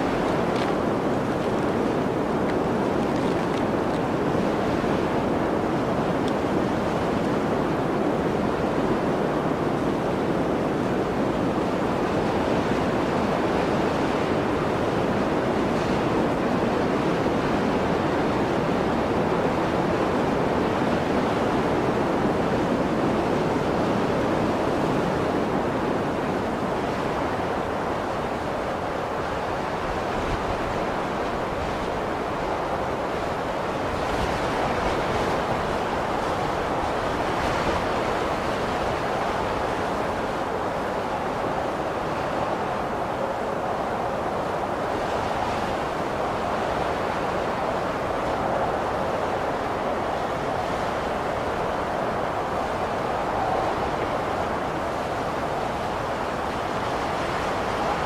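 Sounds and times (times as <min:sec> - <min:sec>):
blizzard wind rushing: 0:00.0 - 0:58.0.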